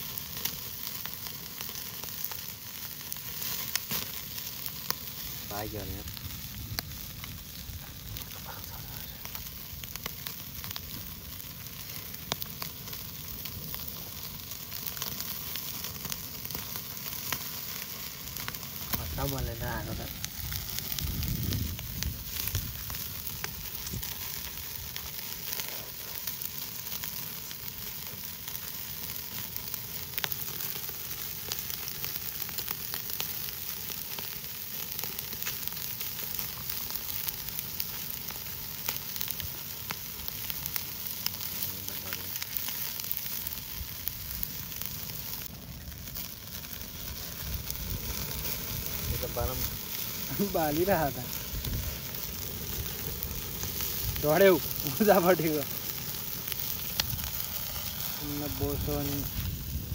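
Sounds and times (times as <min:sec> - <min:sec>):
clicks and pops from embers: 0:00.0 - 0:59.9
meat sizzling on grill: 0:00.0 - 0:59.9.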